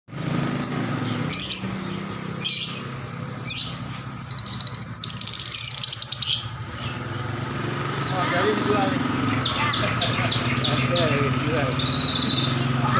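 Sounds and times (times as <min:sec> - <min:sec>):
lovebirds calling: 0:00.1 - 0:12.9
bird chattering notes: 0:00.5 - 0:07.3, 0:07.9 - 0:12.9.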